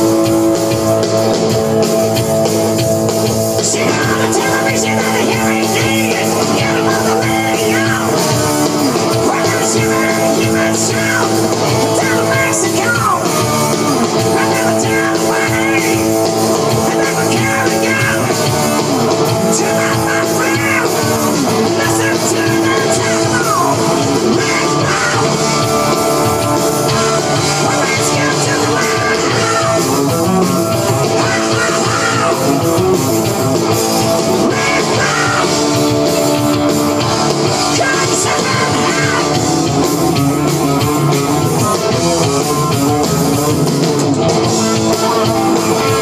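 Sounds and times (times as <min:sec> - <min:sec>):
rock music with guitar: 0:00.0 - 0:46.0.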